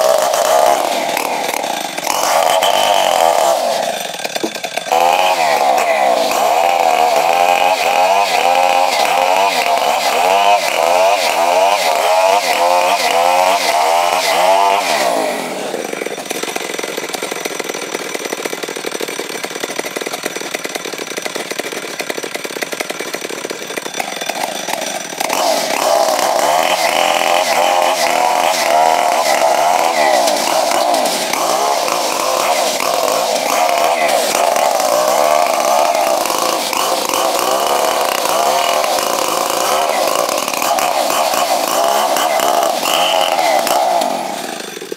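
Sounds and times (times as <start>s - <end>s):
chainsaw cutting log: 0.0s - 44.9s.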